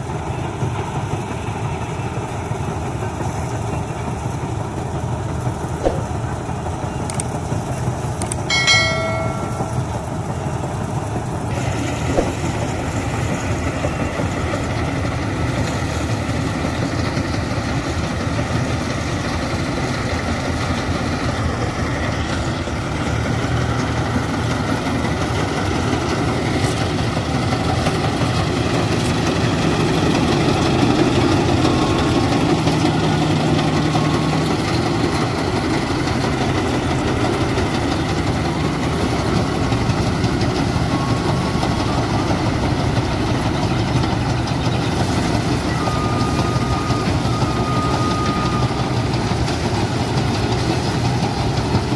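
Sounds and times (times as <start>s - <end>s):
harvester machinery humming: 0.0s - 51.9s.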